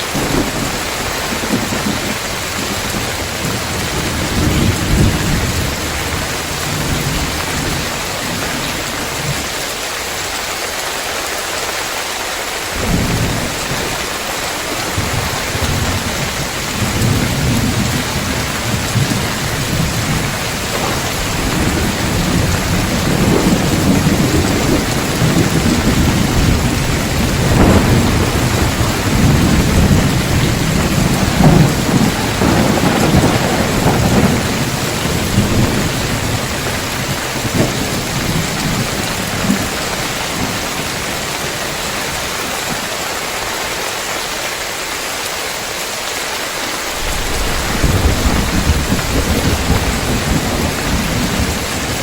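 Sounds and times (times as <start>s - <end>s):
thunder rumbling: 0.0s - 9.6s, 12.7s - 42.8s, 46.6s - 52.0s
heavy rain on roof tiles: 0.0s - 52.0s.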